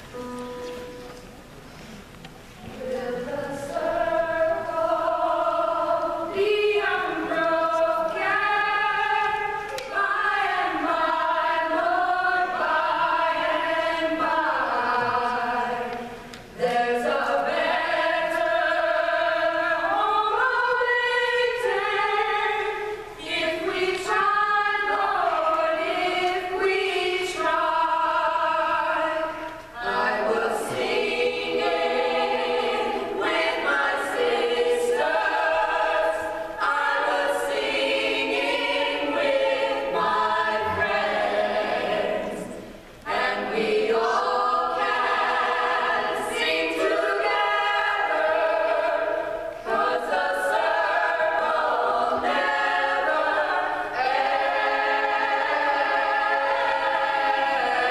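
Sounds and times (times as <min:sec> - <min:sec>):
large choir singing: 0:02.6 - 0:57.9.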